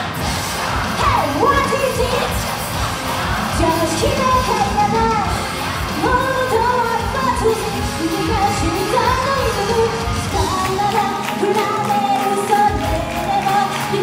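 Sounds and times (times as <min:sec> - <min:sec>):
pop song with woman singing: 0:00.8 - 0:02.6, 0:03.4 - 0:14.0.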